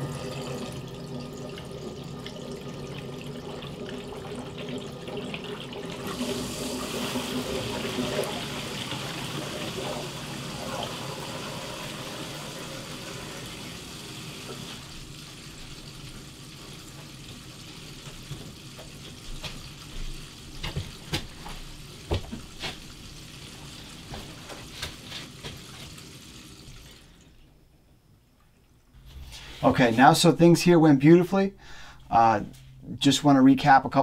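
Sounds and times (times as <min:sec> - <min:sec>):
water rushing through pipes: 0:00.0 - 0:27.4.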